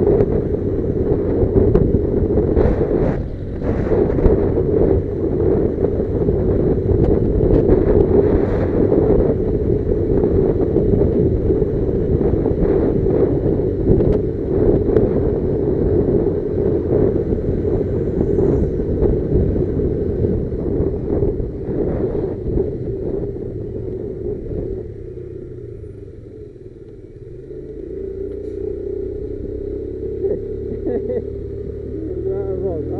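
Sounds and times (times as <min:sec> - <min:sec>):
motorcycle engine rumble: 0:00.0 - 0:32.9
wind buffeting microphone: 0:00.0 - 0:32.9.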